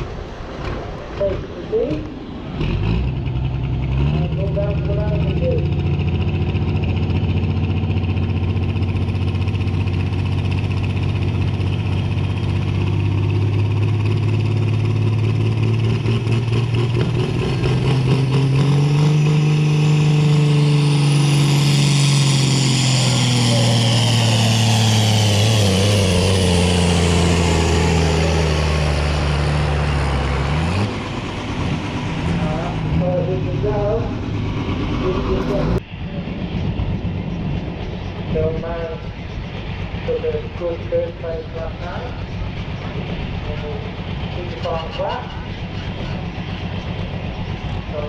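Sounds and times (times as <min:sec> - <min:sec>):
tractor engine revving: 0:00.0 - 0:48.0
high whine: 0:04.2 - 0:48.0.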